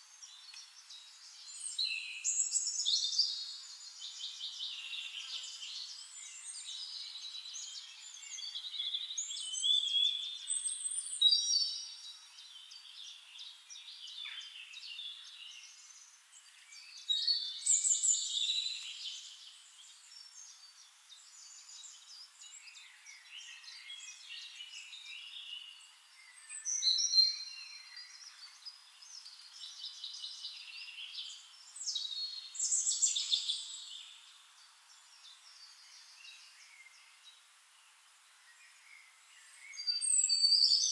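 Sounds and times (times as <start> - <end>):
songbirds singing and calling: 0.0 - 40.9.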